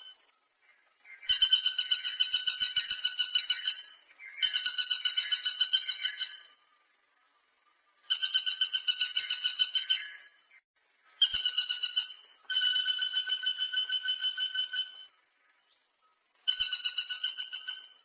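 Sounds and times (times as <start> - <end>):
woodpecker rattling call: 0.0 - 6.6, 8.0 - 18.0.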